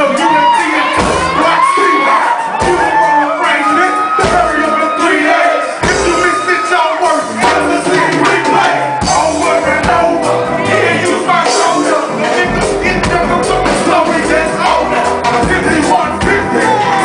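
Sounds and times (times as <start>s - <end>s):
live band music: 0.0s - 17.0s
person singing: 0.0s - 17.0s.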